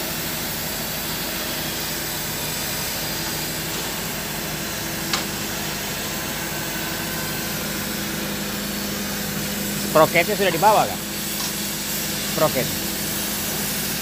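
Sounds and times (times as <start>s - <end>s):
low machine hum: 0.0s - 14.0s
steady hissing noise: 0.1s - 14.0s.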